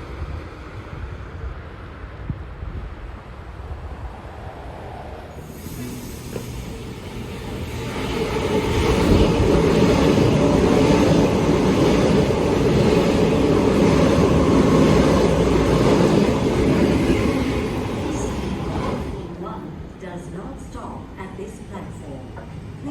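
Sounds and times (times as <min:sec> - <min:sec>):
train rumbling past: 0:00.0 - 0:22.9.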